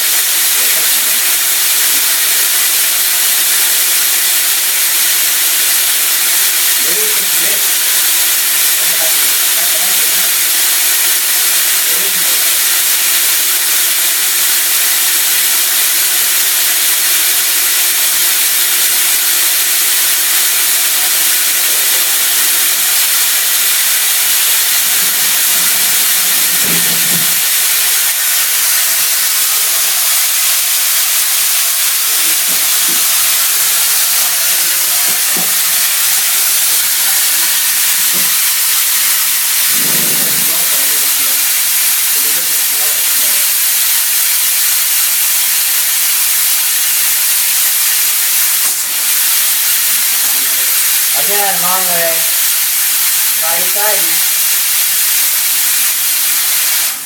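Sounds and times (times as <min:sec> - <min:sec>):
coolant spraying hiss: 0:00.0 - 0:57.0.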